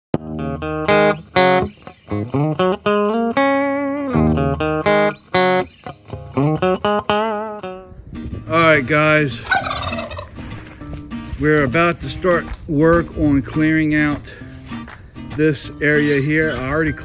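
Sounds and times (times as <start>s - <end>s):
instrumental intro music: 0.2s - 17.0s.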